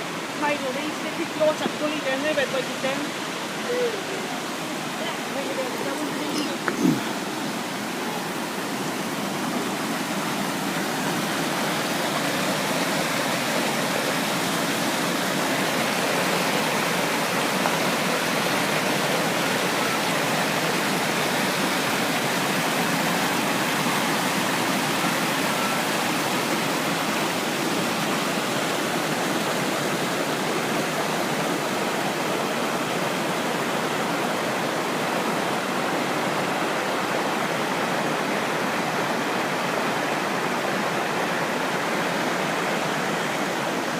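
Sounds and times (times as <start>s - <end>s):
waterfall roaring: 0.0s - 43.9s.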